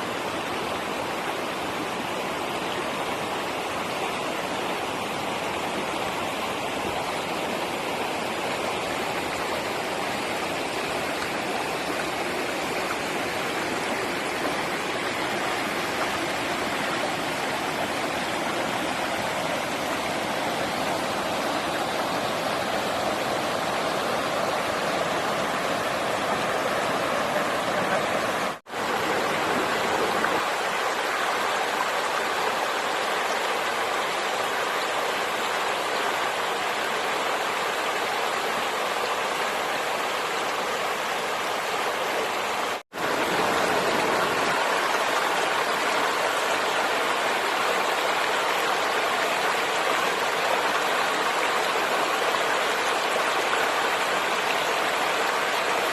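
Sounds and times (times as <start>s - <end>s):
rushing flowing water: 0.0s - 55.9s.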